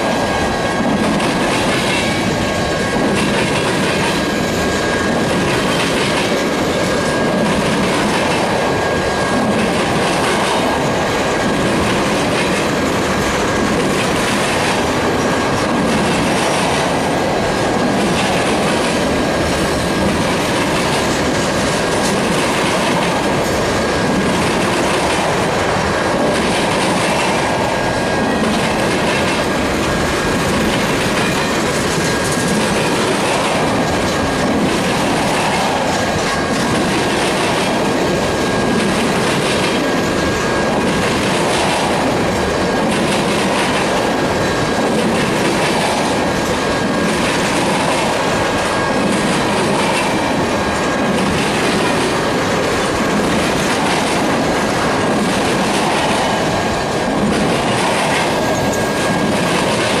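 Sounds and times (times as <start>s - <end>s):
clickety-clack over rail joints: 0.0s - 60.0s
train wheels rumbling on rail: 0.0s - 60.0s.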